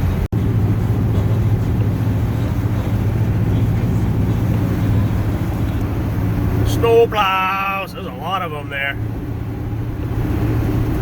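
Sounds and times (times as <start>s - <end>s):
road noise: 0.0s - 11.0s
truck engine drone in cab: 0.0s - 11.0s.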